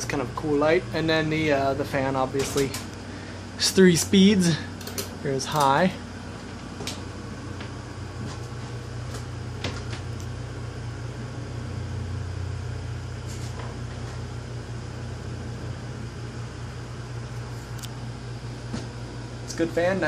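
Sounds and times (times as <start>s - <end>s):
ceiling fan humming: 0.0s - 20.0s.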